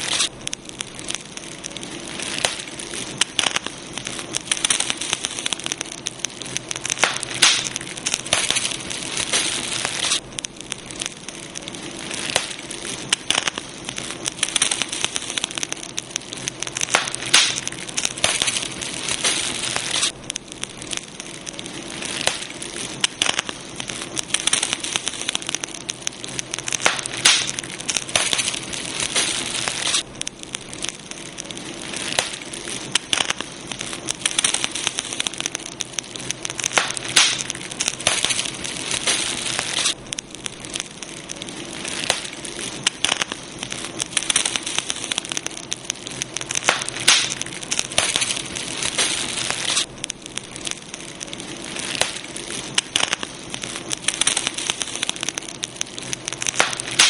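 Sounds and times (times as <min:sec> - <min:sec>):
campfire wood crackling and popping: 0:00.0 - 0:57.0
fire hissing: 0:00.0 - 0:57.0.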